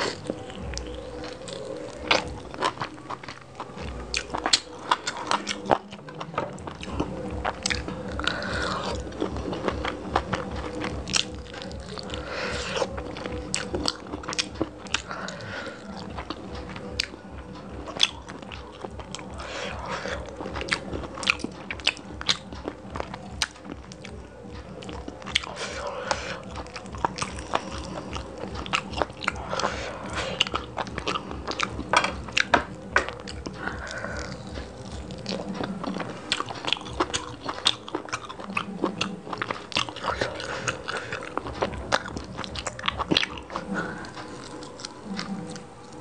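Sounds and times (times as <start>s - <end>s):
fingers squishing food: 0.0s - 46.0s
person chewing with mouth smacks: 0.0s - 46.0s.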